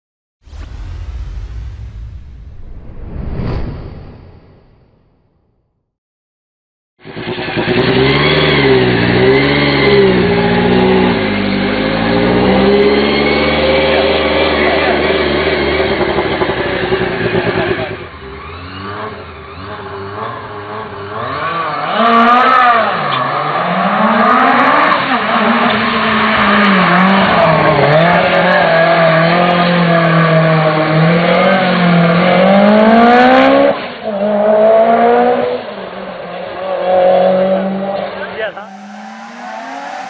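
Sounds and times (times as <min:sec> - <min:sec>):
rally car engine revving: 0:07.0 - 0:40.0.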